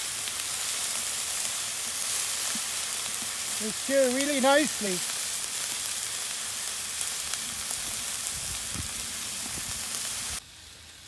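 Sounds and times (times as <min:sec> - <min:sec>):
steaks sizzling in a pan: 0:00.0 - 0:11.0.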